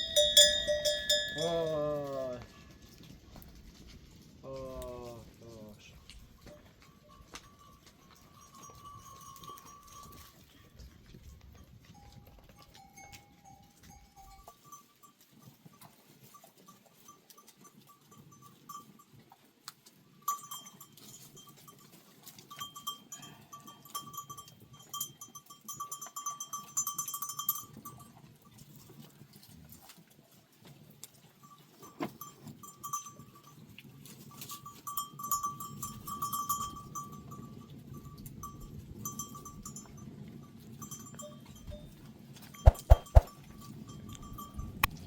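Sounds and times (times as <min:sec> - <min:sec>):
goat bells clinking: 0:00.0 - 0:04.3, 0:04.9 - 0:45.0.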